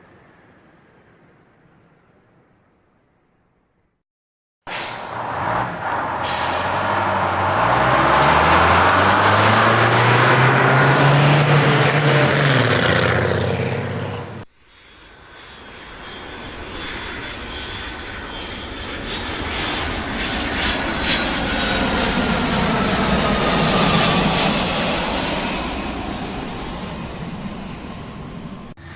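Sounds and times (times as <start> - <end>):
airplane engines whining: 4.7 - 28.9.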